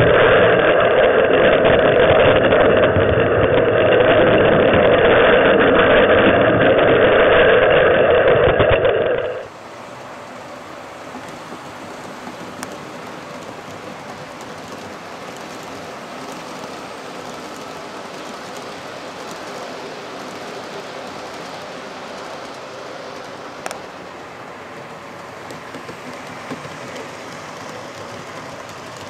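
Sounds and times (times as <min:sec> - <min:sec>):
model trains rolling on track: 0:00.0 - 0:29.0.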